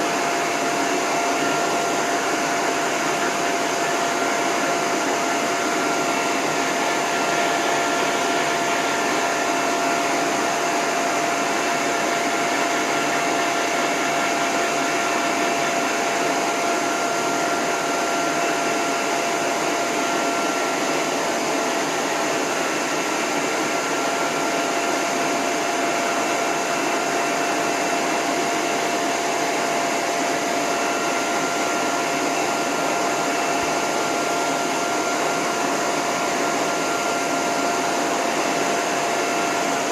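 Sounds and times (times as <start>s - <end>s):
hose dryer blowing air with whine: 0.0s - 39.9s.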